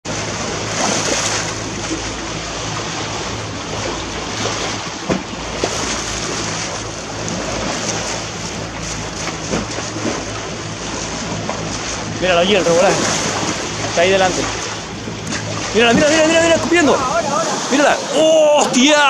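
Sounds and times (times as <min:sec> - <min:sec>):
water rushing along boat hull: 0:00.0 - 0:19.0
steady low hum: 0:00.1 - 0:18.9.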